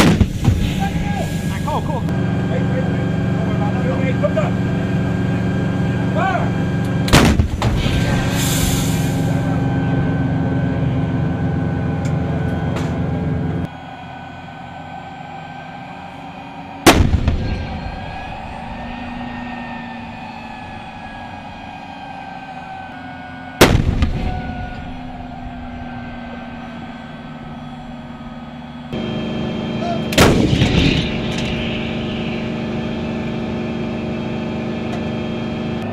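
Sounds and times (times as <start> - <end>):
howitzer blasts: 0.0 - 35.8
engine drone: 0.0 - 35.9.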